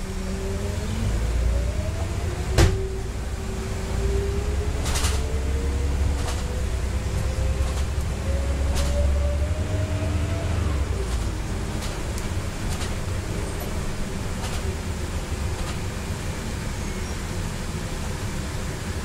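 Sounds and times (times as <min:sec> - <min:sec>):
bus engine rumble and whine: 0:00.0 - 0:19.0
bus body rattles: 0:02.0 - 0:03.3, 0:04.2 - 0:18.2.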